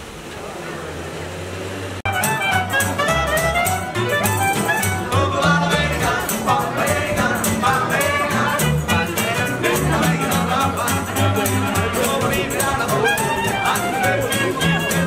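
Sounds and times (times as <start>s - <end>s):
bowed string melody: 1.2s - 15.0s.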